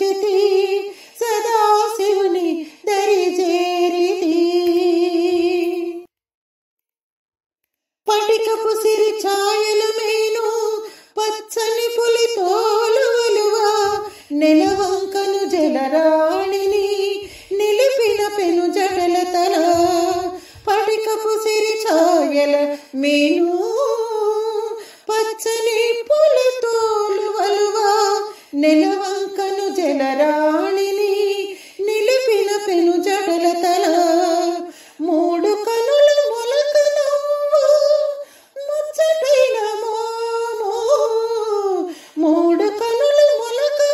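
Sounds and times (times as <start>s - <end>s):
woman singing devotional song: 0.0s - 6.1s, 8.1s - 43.9s.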